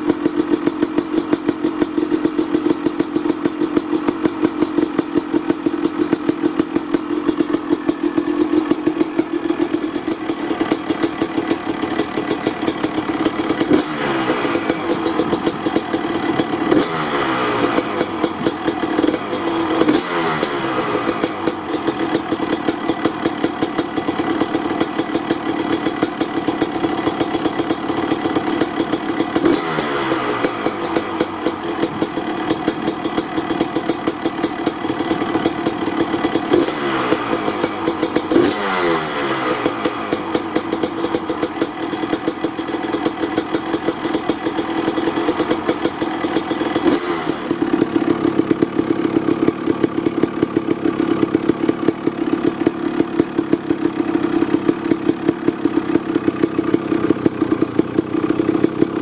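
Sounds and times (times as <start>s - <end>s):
two-stroke engine idling: 0.0s - 59.0s.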